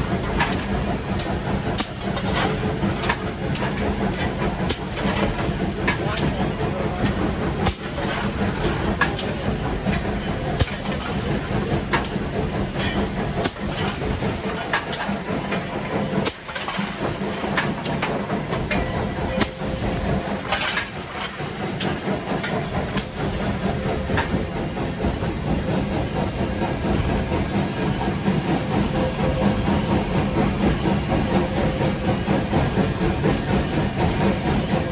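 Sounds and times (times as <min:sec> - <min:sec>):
steam hiss: 0:00.0 - 0:34.9
steam locomotive rumble: 0:00.0 - 0:34.9.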